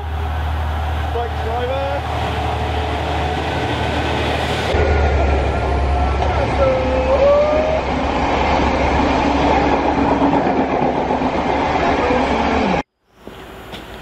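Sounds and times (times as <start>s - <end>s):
train rushing past: 0.0s - 12.9s
steady train hum: 0.0s - 14.0s.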